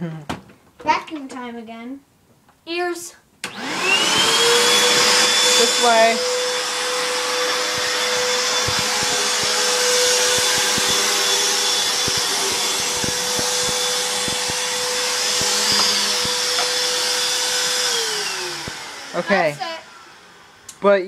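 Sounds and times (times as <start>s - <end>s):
vacuum cleaner running: 3.4s - 21.0s.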